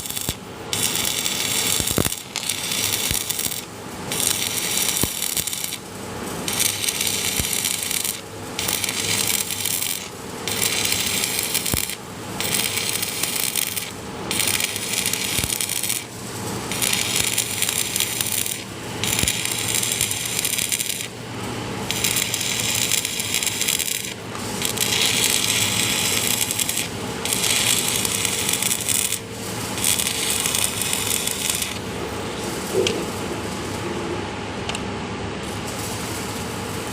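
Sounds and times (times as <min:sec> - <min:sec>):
welding arc crackling: 0:00.0 - 0:34.8, 0:35.4 - 0:36.9.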